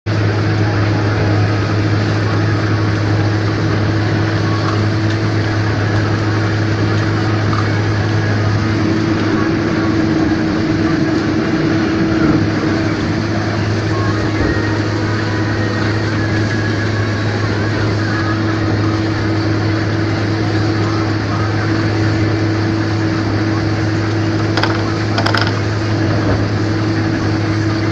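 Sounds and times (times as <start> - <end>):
combine harvester engine drone: 0.0 - 27.9.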